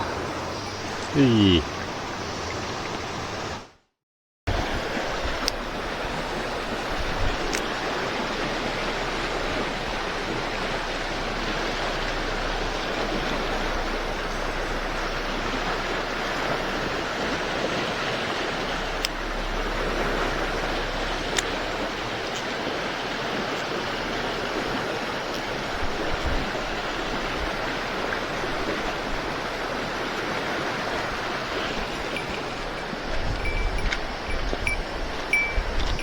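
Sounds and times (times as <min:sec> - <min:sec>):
stream water rushing: 0:00.0 - 0:03.8, 0:04.5 - 0:36.0.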